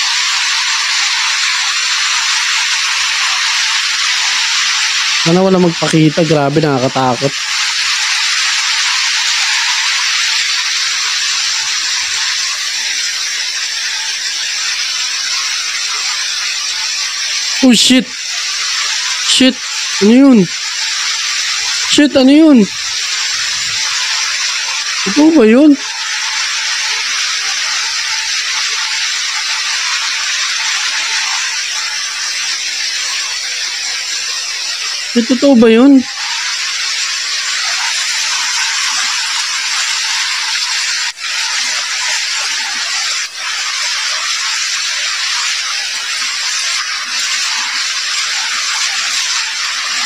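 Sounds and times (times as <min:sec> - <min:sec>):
steady loud hiss: 0:00.0 - 0:50.0.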